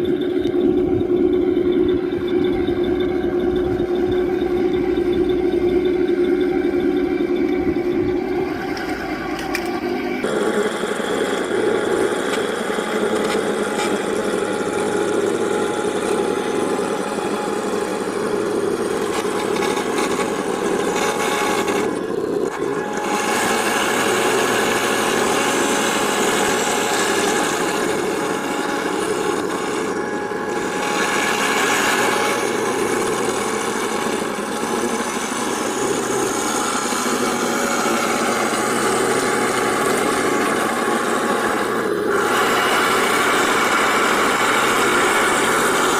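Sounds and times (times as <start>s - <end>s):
metal tracks running: 0.0s - 45.9s
toy tank engine noise: 0.0s - 45.9s.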